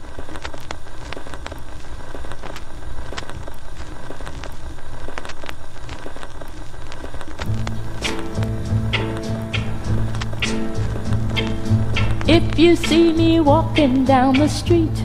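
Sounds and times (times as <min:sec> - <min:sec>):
low rumble: 0:00.0 - 0:14.0
vinyl record crackles and pops: 0:00.0 - 0:15.0.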